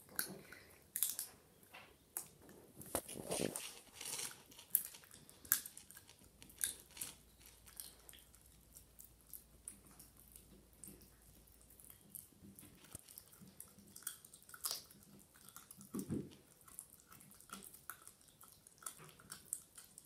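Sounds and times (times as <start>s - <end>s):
puppy chewing and crunching: 0.0s - 20.0s.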